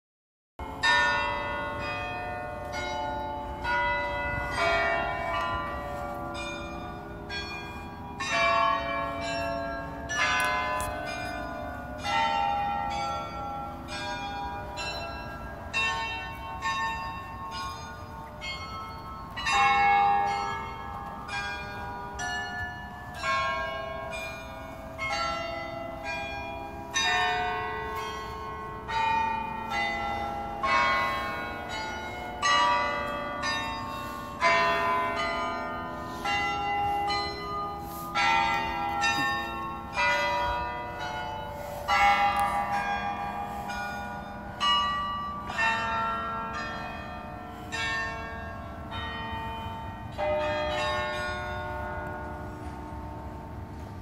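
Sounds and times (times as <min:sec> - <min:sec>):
church carillon bells playing tune: 0:00.6 - 0:54.0.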